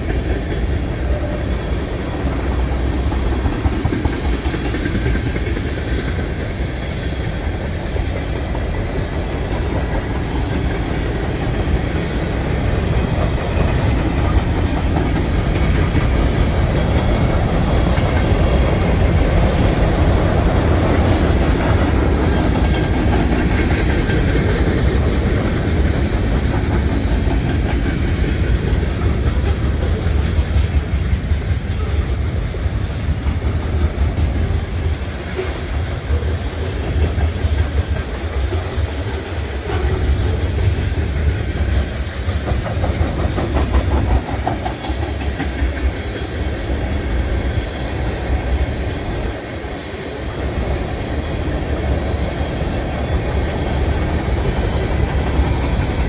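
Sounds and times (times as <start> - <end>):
freight train rumbling past: 0.0 - 56.0
wheels clicking over rail joints: 2.1 - 56.0.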